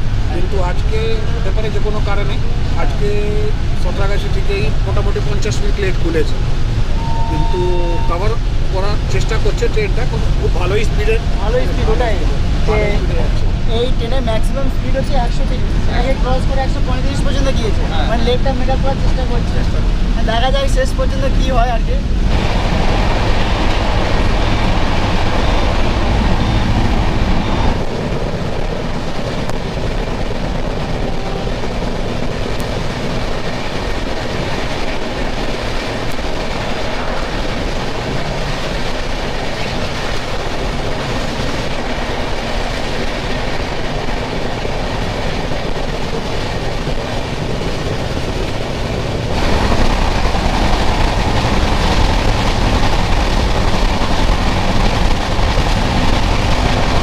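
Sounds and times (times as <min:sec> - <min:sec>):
train wheel and rail noise: 0:00.0 - 0:57.0.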